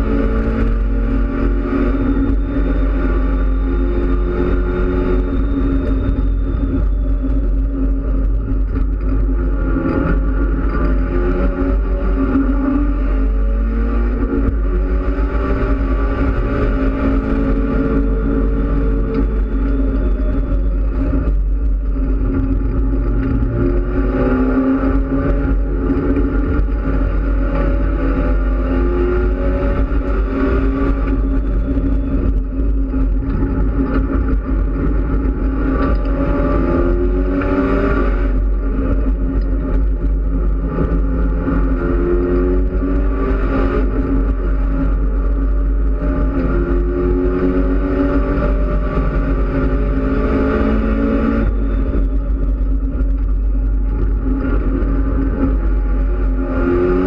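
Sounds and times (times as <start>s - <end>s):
heavy low rumble: 0.0s - 57.0s
race car engine revving: 0.0s - 57.0s.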